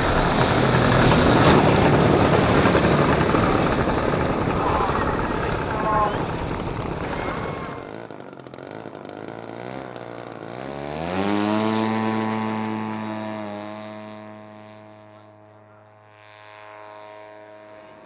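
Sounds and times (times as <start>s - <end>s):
model airplane engine revving: 0.0s - 18.0s.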